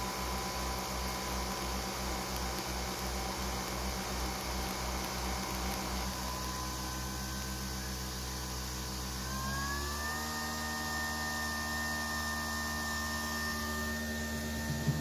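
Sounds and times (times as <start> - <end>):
coffee machine whirring: 0.0 - 15.0.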